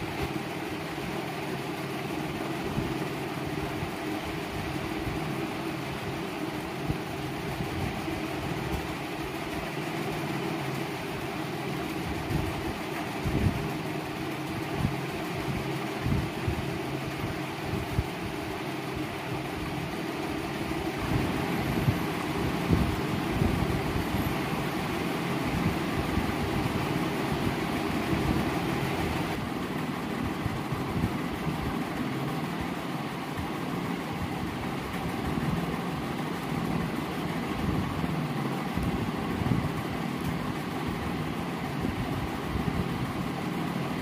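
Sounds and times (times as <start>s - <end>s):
fan humming: 0.0s - 44.0s.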